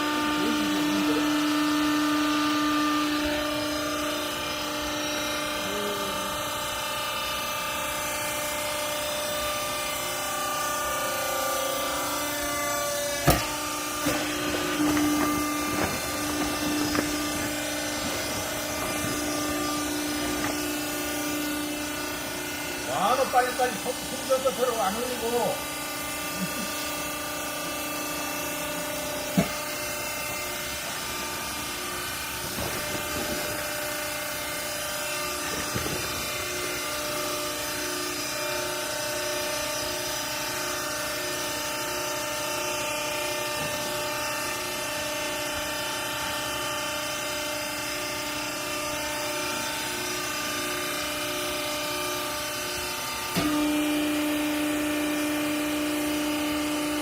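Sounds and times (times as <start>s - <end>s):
hydraulic pump motor humming: 0.0s - 57.0s.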